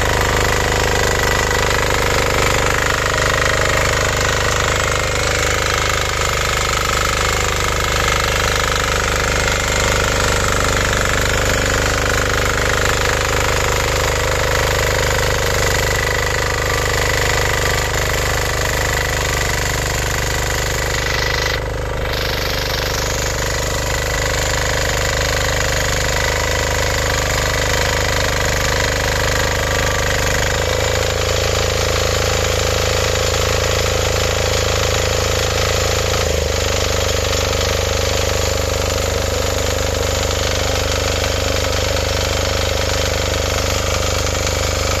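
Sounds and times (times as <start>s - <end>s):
tiller engine running: 0.0s - 45.0s
tiller tines digging soil: 0.0s - 45.0s.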